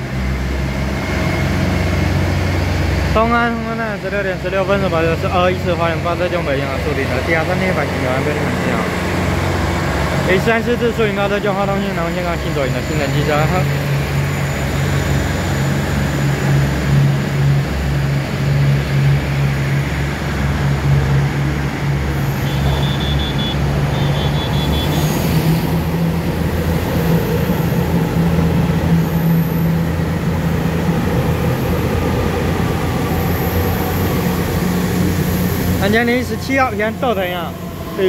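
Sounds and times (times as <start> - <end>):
diesel train engine hum: 0.0 - 38.0
electric train passing: 0.0 - 38.0.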